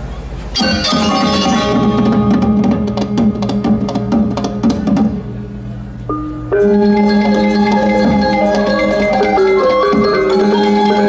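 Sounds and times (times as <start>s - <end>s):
gamelan playing: 0.6s - 11.0s.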